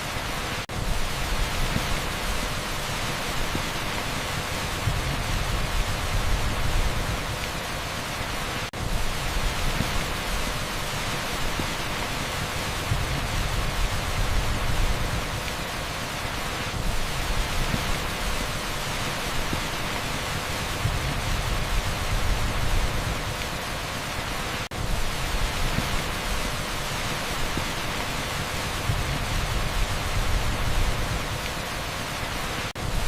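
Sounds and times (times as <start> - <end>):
torrential rain on asphalt: 0.0 - 33.0.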